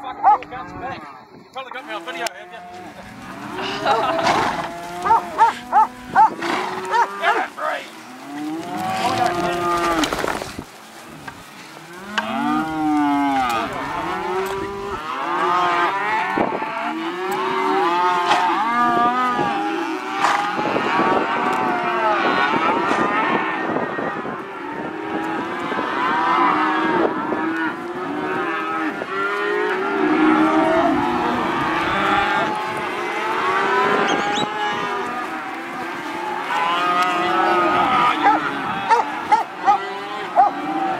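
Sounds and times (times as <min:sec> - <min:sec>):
calves mooing: 0:00.0 - 0:10.4, 0:11.8 - 0:40.9.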